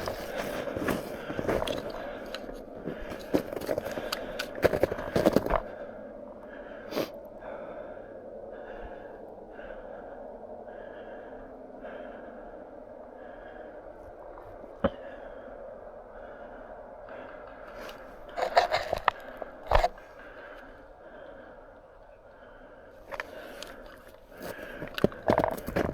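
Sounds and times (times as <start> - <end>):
person breathing hard: 0.0 - 25.9.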